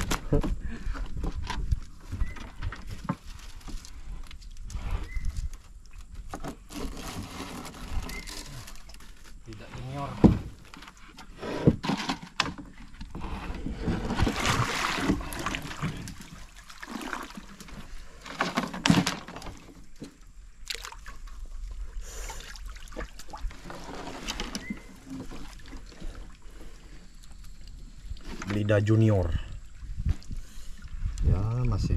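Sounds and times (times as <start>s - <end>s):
water splashing and sloshing: 0.0s - 31.9s.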